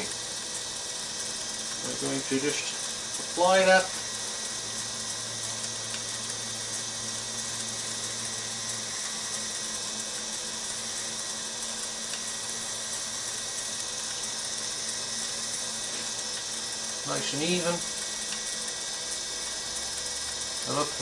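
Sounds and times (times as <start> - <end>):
wood lathe motor hum: 0.0 - 21.0.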